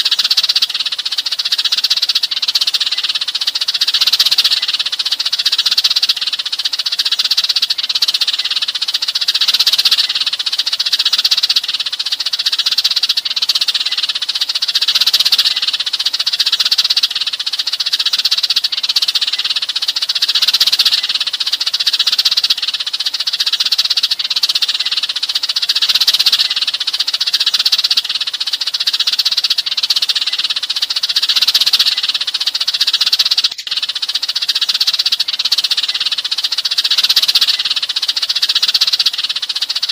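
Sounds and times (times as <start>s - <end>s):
sparrows chattering and chirping: 0.0s - 39.9s.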